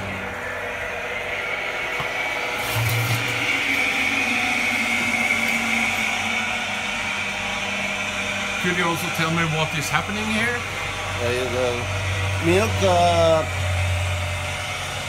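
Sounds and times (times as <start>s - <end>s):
electric milk pump whining: 0.0s - 15.0s.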